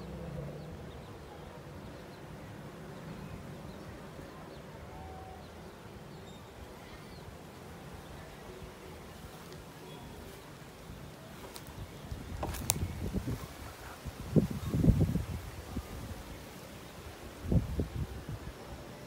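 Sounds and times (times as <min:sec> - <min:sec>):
small birds chirping: 0:00.0 - 0:18.3.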